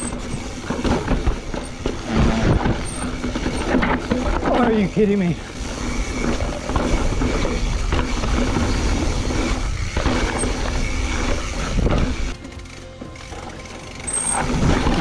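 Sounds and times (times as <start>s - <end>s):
bike rattling over rocks: 0.0s - 15.0s
bike tyres crunching over stones: 0.0s - 15.0s.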